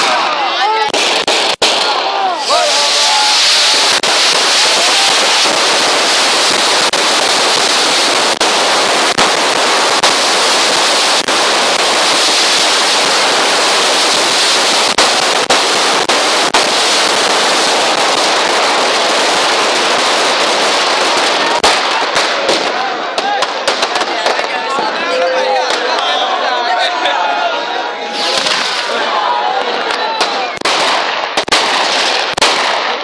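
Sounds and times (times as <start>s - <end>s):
fireworks crackling: 0.0s - 26.2s, 28.0s - 33.0s
sharp firework cracks: 0.8s - 24.7s, 28.1s - 33.0s.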